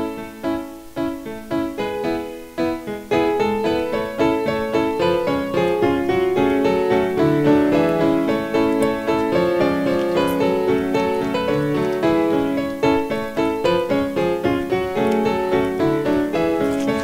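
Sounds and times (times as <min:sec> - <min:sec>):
quick keyboard instrumental music: 0:00.0 - 0:17.0.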